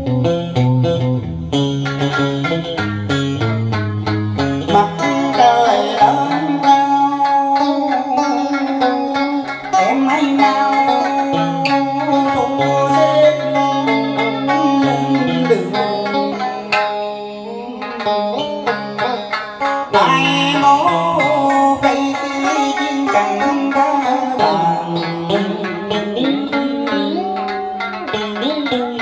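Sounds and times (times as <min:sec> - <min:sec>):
electric guitar plucked melody: 0:00.0 - 0:29.0
two-string lute melody: 0:00.0 - 0:29.0.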